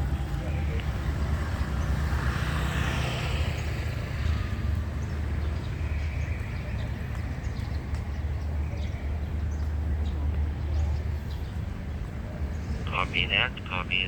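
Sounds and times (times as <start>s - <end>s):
road traffic rumble: 0.0s - 14.0s
vehicle passing: 0.0s - 14.0s.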